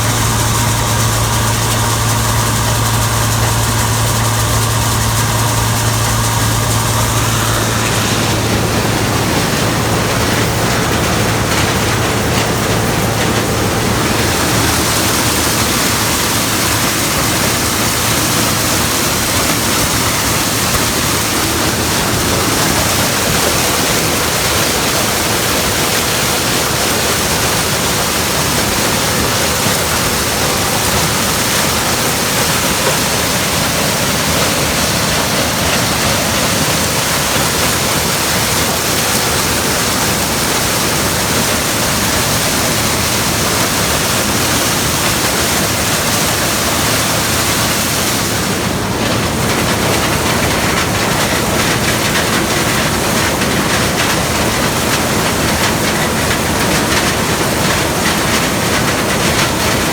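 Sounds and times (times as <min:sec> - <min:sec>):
loud rushing noise: 0:00.0 - 0:49.4
combine harvester engine hum: 0:00.0 - 0:59.9.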